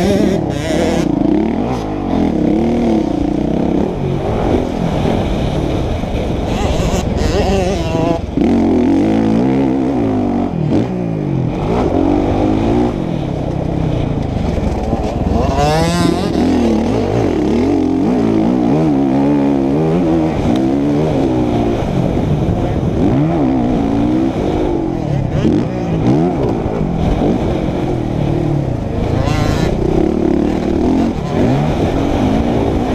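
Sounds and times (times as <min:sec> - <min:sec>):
two-stroke motorbike engine revving: 0:00.0 - 0:32.9.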